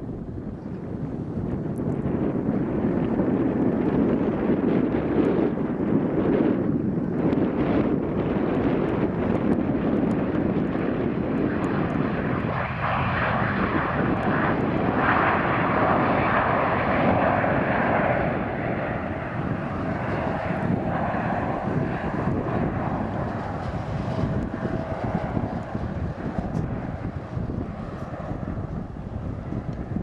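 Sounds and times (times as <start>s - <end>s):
jet engines rushing: 0.0s - 30.0s
wind buffeting microphone: 0.0s - 30.0s.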